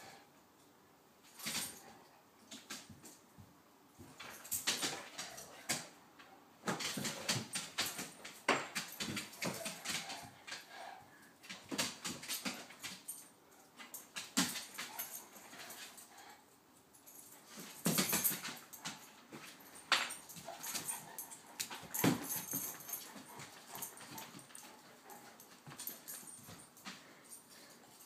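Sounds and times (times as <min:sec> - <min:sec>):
paws scrabbling on floor: 0:02.6 - 0:16.4, 0:17.1 - 0:28.0
dogs scuffling: 0:04.0 - 0:06.0, 0:06.6 - 0:16.4, 0:17.0 - 0:28.0.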